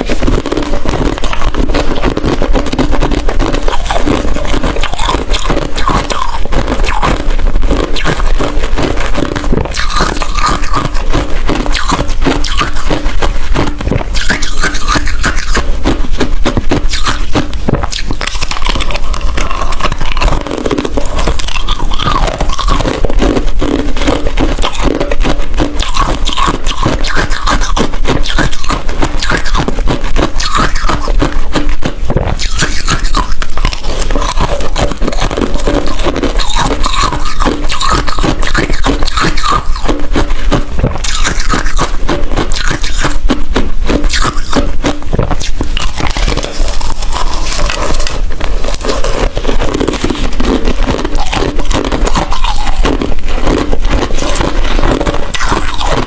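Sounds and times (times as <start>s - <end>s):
ice crunching being chewed: 0.0s - 56.0s.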